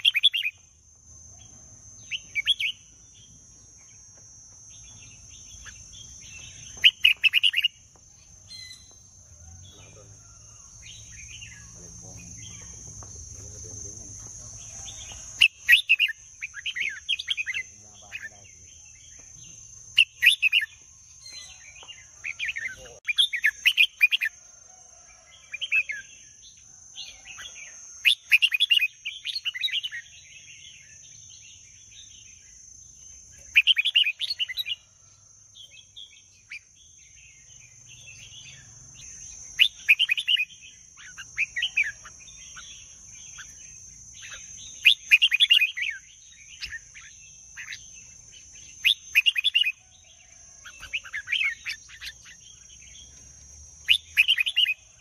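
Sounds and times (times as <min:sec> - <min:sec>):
bird chirping song: 0:00.0 - 0:55.0.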